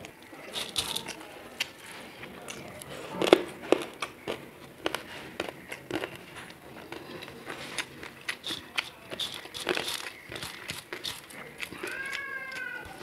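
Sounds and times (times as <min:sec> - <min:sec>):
fingers squishing rice: 0:00.0 - 0:13.0
wet chewing mouth clicks: 0:00.0 - 0:13.0.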